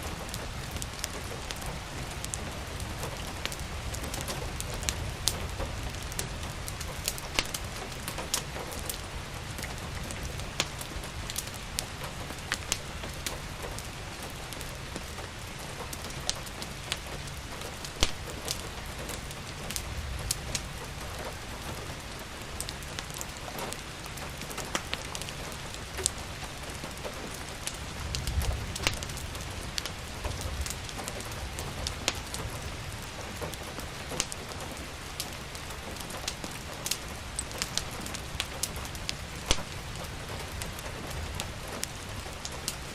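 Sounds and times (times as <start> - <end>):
steady rain: 0.0 - 42.9
wood fire crackling: 0.0 - 42.9.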